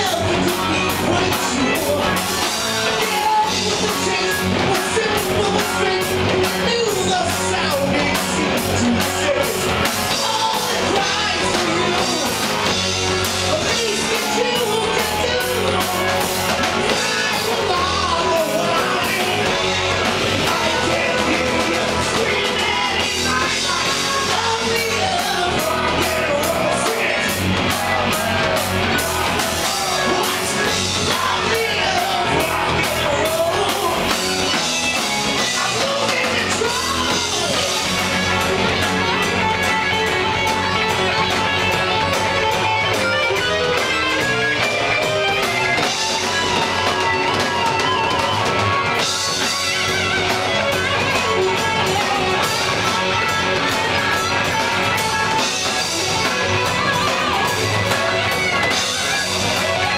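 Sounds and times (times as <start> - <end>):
bass guitar: 0.0 - 59.9
drums: 0.0 - 59.9
electric guitar: 0.0 - 59.9
person singing: 0.0 - 59.9.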